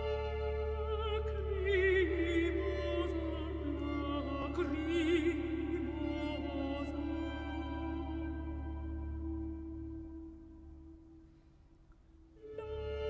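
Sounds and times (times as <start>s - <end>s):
operatic singing with wide vibrato: 0.0s - 10.9s, 12.4s - 13.0s.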